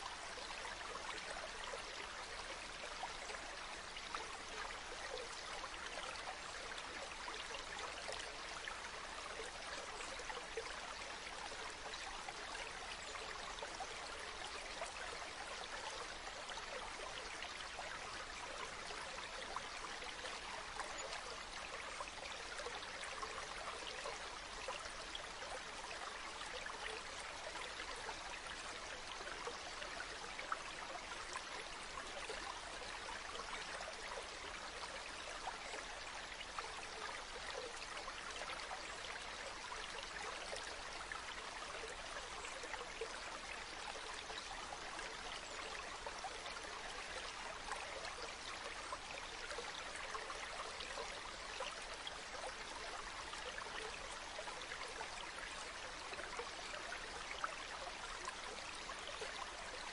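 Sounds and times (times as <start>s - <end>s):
water babbling over pebbles: 0.0s - 59.9s.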